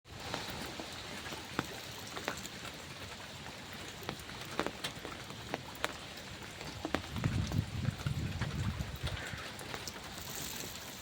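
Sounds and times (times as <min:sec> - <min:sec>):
raindrops tapping a surface: 0:00.1 - 0:11.0
steady rain falling: 0:00.1 - 0:11.0.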